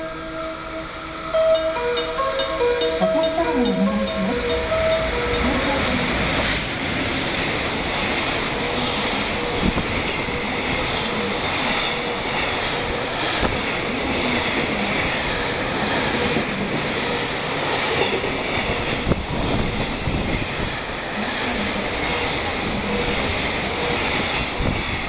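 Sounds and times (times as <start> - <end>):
freight train rumble and clatter: 0.8 - 25.0.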